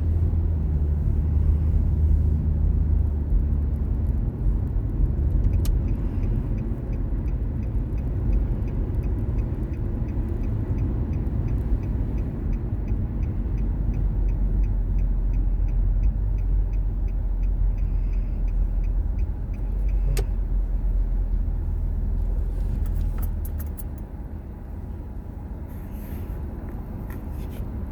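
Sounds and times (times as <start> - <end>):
car interior rumble: 0.0 - 27.9.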